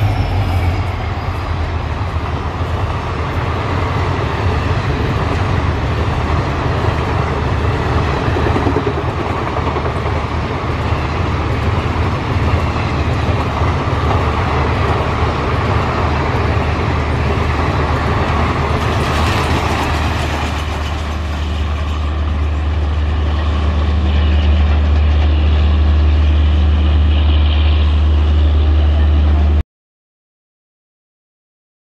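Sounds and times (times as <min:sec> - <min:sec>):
train coaches rushing past: 0:00.0 - 0:29.6.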